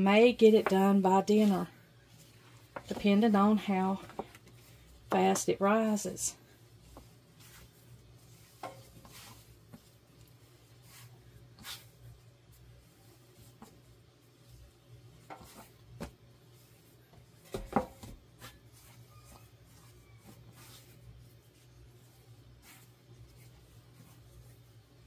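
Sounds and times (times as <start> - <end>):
hands kneading dough: 0.0 - 25.0.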